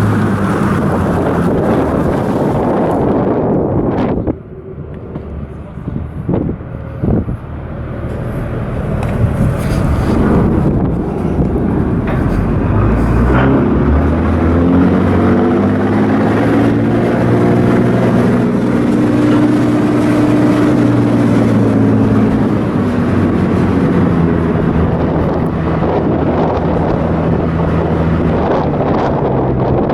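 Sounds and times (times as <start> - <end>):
engine running: 0.0 - 29.9
wind rumbling on microphone: 0.0 - 29.9.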